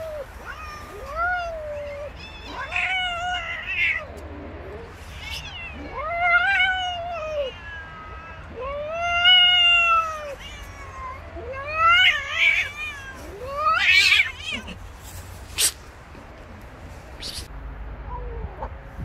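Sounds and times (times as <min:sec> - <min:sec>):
cats yowling: 0:00.0 - 0:15.8.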